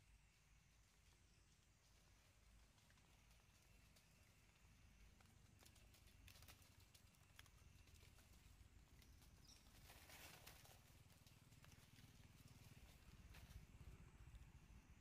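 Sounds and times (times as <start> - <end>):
dry leaves rustling: 1.8 - 14.2
faint scattered clicks: 1.9 - 14.6.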